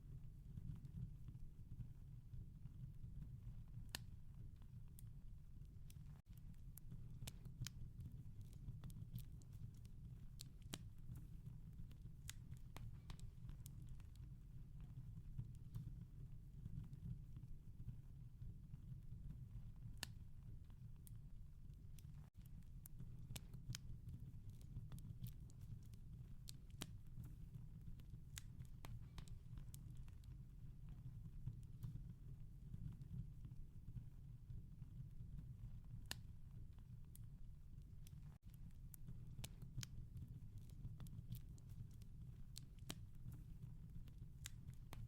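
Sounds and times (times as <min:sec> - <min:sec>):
wood fire crackling: 0:03.2 - 0:17.8, 0:19.0 - 0:33.6, 0:34.9 - 0:45.0.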